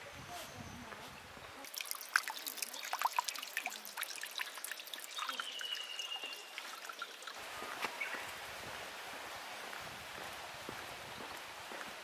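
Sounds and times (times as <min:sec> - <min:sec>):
stream trickling over rocks: 0:01.6 - 0:12.0.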